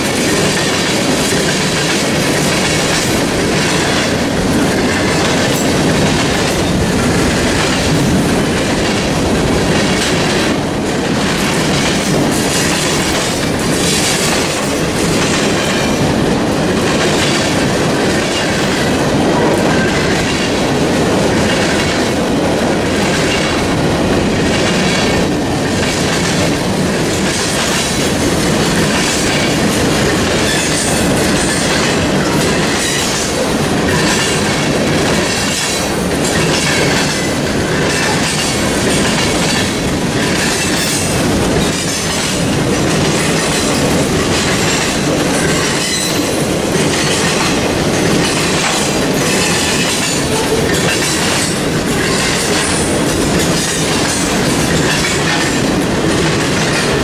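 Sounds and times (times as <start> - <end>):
train wheels clacking over rail joints: 0.0 - 57.0.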